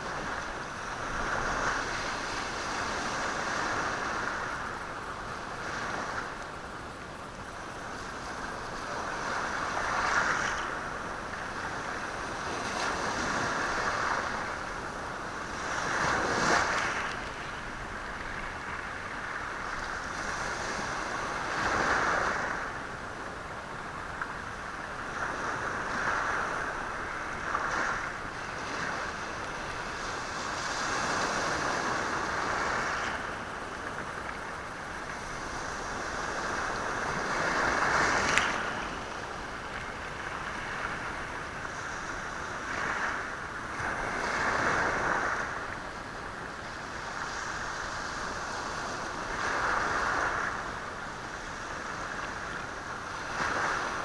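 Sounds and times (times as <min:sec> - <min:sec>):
sea waves surging on rocky shore: 0:00.0 - 0:54.0.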